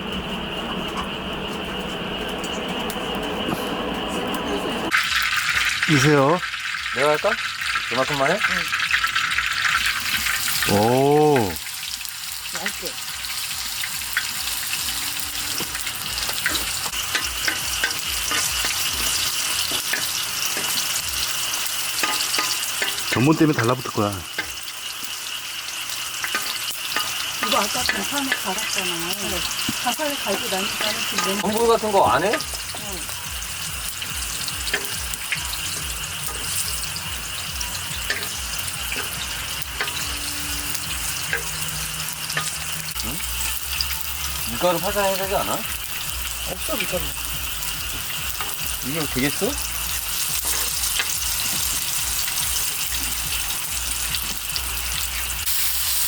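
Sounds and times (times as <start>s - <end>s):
batter sizzling in hot oil: 0.0s - 56.0s.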